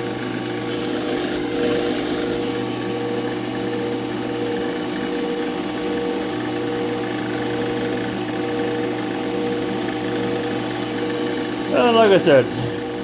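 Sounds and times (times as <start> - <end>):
power tool motor humming: 0.0 - 13.0.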